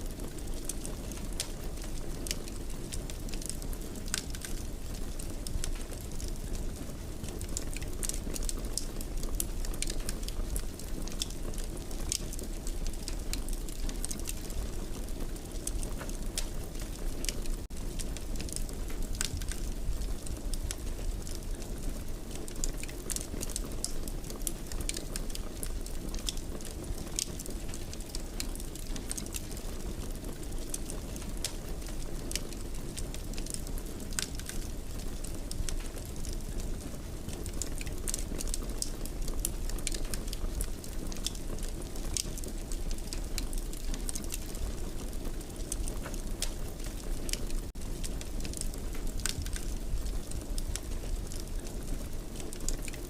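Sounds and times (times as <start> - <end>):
fire popping and snapping: 0.0 - 53.0
wood fire crackling: 0.0 - 53.0.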